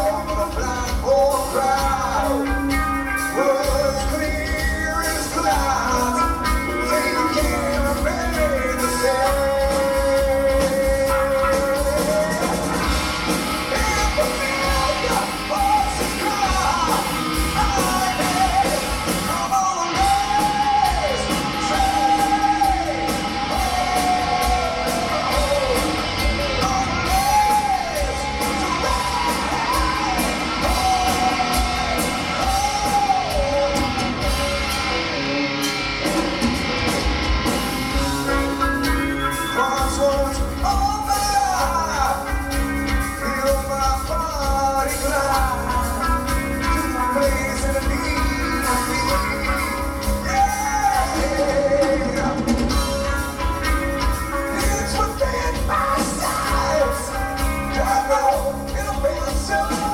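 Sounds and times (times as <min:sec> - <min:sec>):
man singing: 0:00.0 - 0:35.4, 0:37.9 - 0:59.9
bass guitar: 0:00.0 - 0:59.9
drums: 0:00.0 - 0:59.9
electric guitars: 0:00.0 - 0:59.9.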